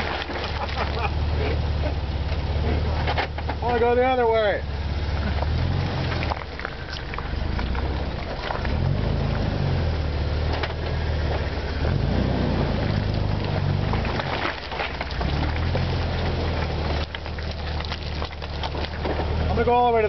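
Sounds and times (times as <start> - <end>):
off-road vehicle engine running: 0.0 - 20.0
tyres crunching in mud: 0.0 - 20.0.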